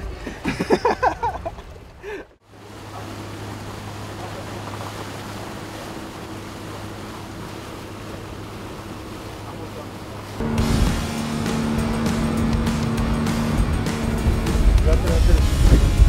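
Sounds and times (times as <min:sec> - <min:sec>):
boat engine humming: 0:00.0 - 0:16.0
water rushing: 0:00.0 - 0:16.0
wind: 0:00.0 - 0:16.0.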